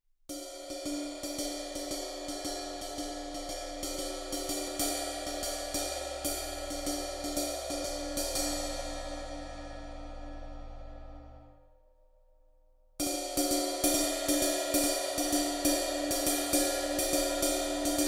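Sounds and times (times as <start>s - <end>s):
ride cymbal struck with drumsticks: 0.3s - 11.2s, 13.0s - 18.0s.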